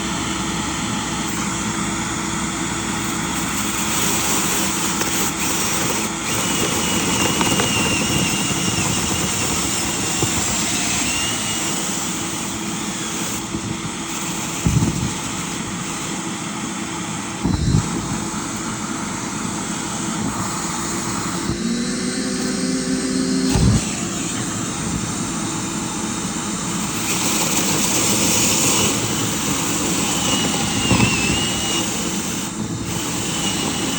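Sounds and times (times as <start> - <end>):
cleaning equipment motor running: 0.0 - 33.9.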